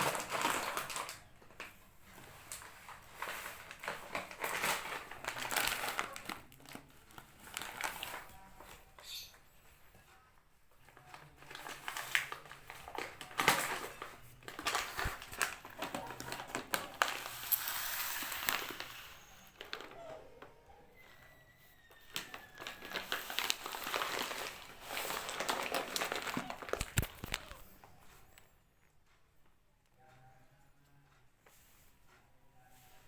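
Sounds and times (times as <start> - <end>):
kittens rustling and scratching: 0.0 - 20.0, 21.0 - 28.5.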